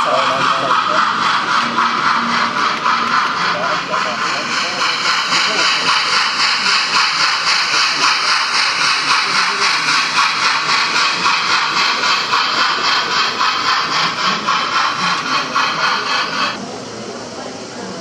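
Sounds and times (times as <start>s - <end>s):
model steam train running: 0.0s - 18.0s.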